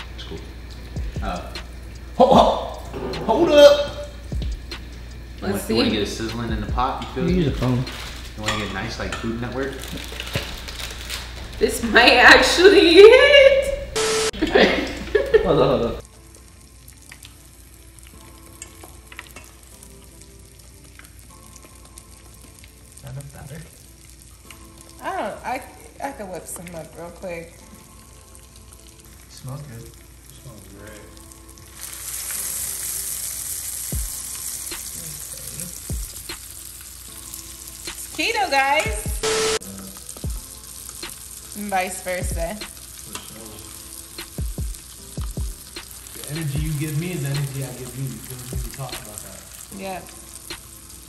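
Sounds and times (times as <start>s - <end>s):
frying in oil sizzling: 0.0s - 51.0s.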